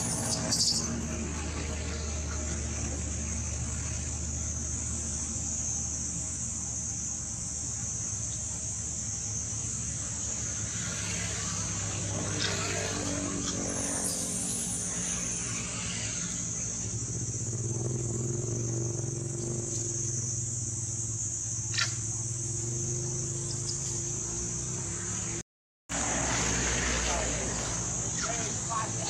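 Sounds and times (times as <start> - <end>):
high-pitched insect drone: 0.0 - 25.4, 26.0 - 29.0.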